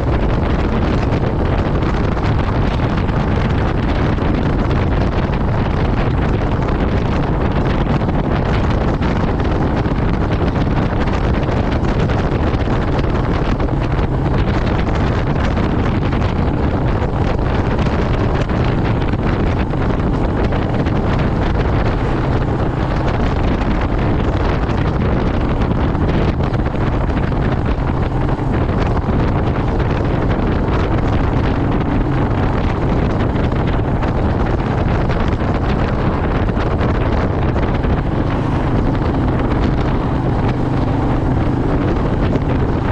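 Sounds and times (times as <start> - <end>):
motorcycle engine drone: 0.0 - 42.9
wind rushing across microphone: 0.0 - 42.9.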